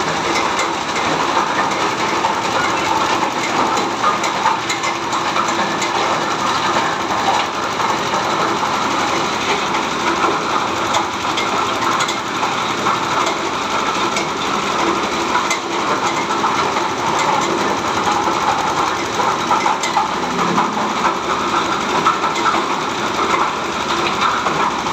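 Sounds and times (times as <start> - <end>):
shredding machine clatter: 0.0 - 24.9
small engine running: 0.0 - 24.9.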